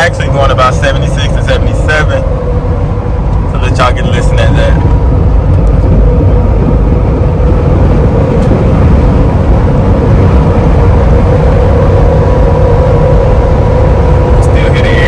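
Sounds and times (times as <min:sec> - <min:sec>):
road noise low rumble: 0:00.0 - 0:15.0
tire hum: 0:00.0 - 0:15.0
wind noise: 0:00.0 - 0:15.0.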